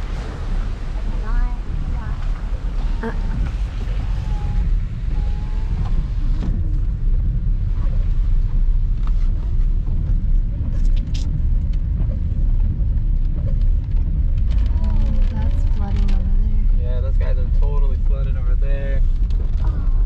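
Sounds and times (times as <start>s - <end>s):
car engine and tyres rumble: 0.0s - 20.0s.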